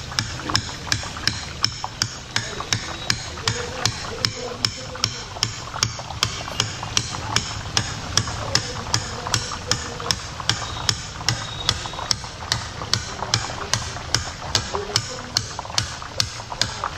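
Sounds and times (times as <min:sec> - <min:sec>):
batter sizzling in hot oil: 0:00.0 - 0:16.9
metal ladle tapping: 0:00.0 - 0:16.9.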